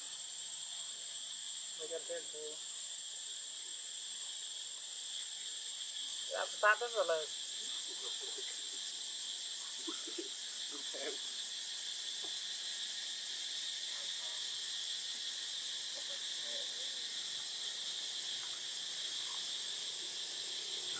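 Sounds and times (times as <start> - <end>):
insect chorus drone: 0.0 - 20.9.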